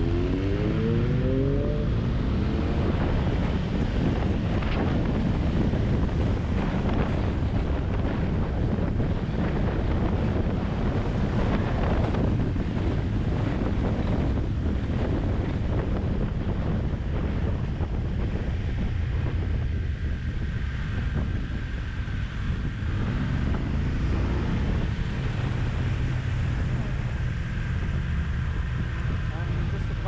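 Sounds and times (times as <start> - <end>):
motorcycle engine and road noise: 0.0 - 30.0
wind rushing over microphone: 0.0 - 30.0.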